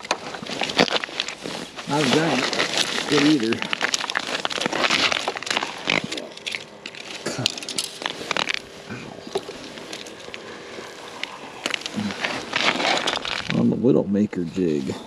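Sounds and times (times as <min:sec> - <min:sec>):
handling clicks and crackles: 0:00.0 - 0:13.6
faint steady hum: 0:00.0 - 0:15.0.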